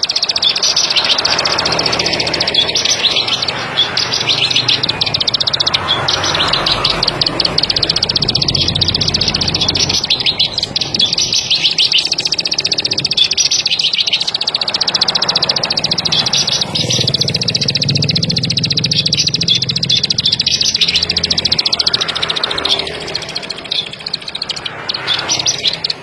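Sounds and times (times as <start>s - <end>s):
bird singing fast trill: 0.0s - 26.0s.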